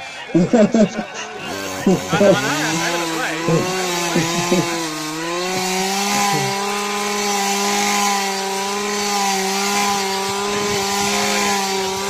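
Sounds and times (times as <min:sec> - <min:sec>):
brush cutter engine drone: 0:01.2 - 0:12.0.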